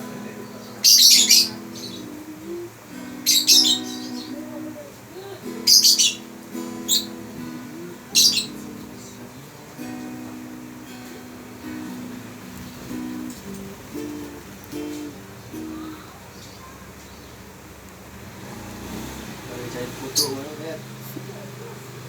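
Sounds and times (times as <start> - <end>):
acoustic guitar plucked: 0.0 - 22.0
bird chirping: 0.1 - 21.8.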